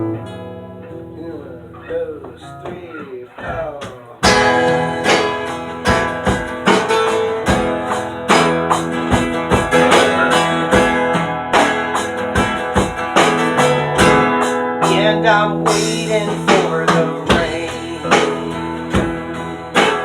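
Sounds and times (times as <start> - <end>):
folk-rock band playing: 0.0 - 20.0
strummed acoustic guitar: 0.0 - 20.0.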